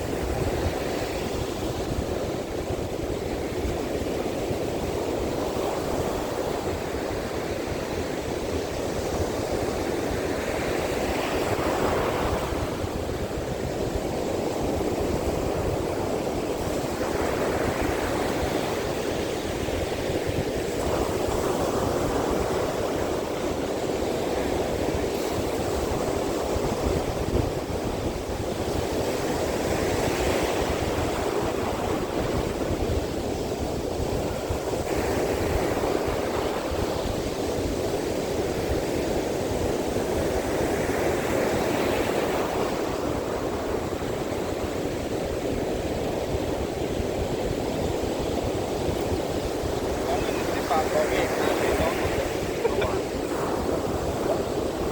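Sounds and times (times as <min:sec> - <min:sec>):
surf waves breaking: 0:00.0 - 0:54.9
wind rumble on microphone: 0:00.0 - 0:54.9.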